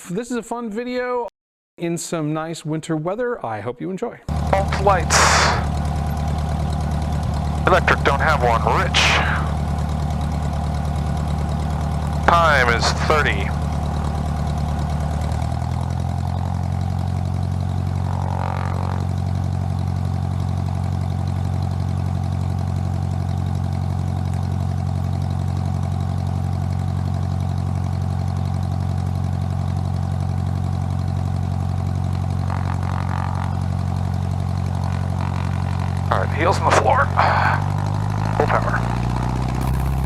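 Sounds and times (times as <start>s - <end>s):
light aircraft engine running: 4.3s - 40.0s.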